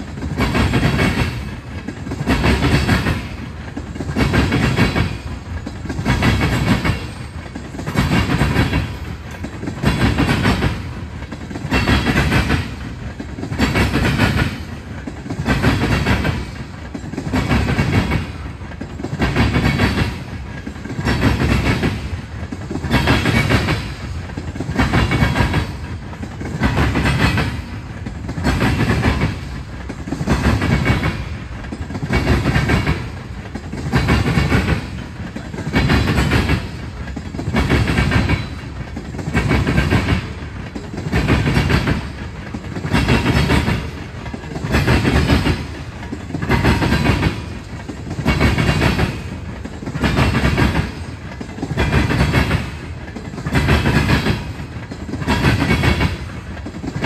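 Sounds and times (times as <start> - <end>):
train wheels clacking on rails: 0.0 - 57.0.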